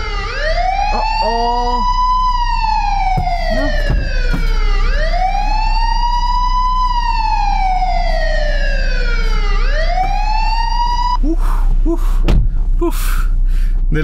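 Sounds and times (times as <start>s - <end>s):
wailing siren alarm: 0.0s - 12.2s.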